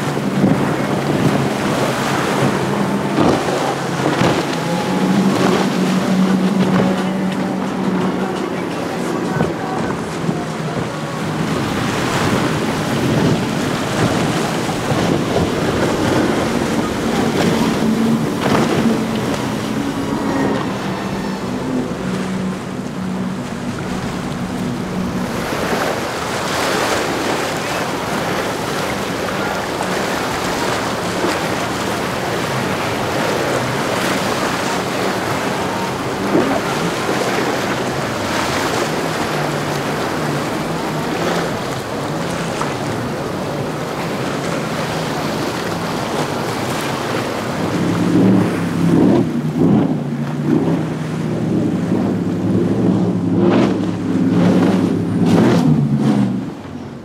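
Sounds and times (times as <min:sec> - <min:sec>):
powerboat engine drone: 0:00.0 - 0:57.0
racing powerboat surging engine: 0:00.0 - 0:57.0
rush of spray and wake: 0:00.0 - 0:57.0
wind noise on microphone: 0:09.1 - 0:57.0.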